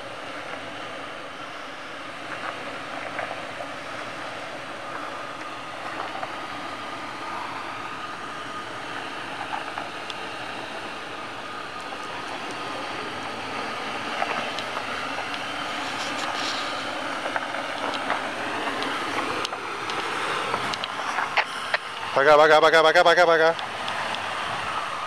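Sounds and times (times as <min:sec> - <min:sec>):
vehicle driving on dirt track: 0:00.0 - 0:25.0.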